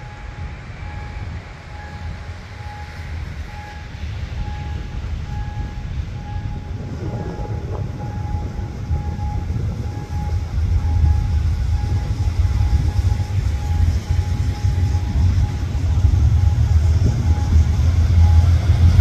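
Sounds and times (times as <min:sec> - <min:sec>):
diesel locomotive engine rumble: 0:00.0 - 0:19.0
level crossing signal beeping: 0:00.0 - 0:19.0.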